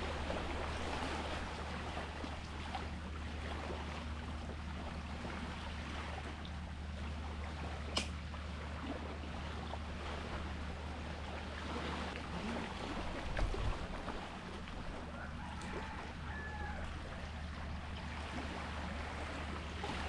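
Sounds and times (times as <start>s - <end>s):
sea water lapping: 0.0s - 20.0s.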